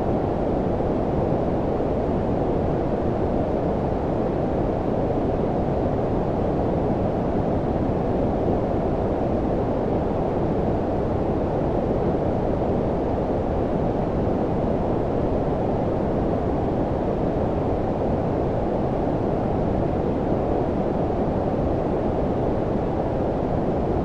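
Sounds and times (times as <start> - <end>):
low-frequency white noise: 0.0 - 24.0.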